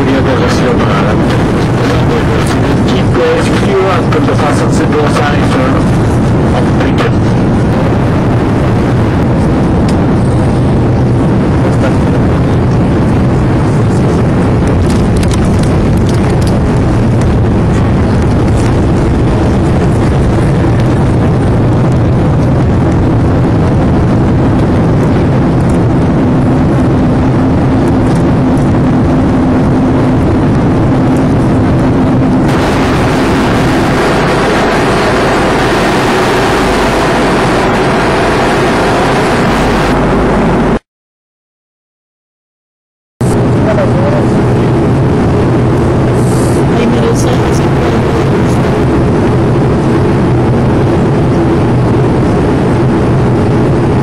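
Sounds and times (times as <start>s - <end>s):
airliner cabin noise: 0.0s - 40.8s, 43.2s - 54.0s
jet engines rumbling: 0.0s - 40.8s, 43.2s - 54.0s.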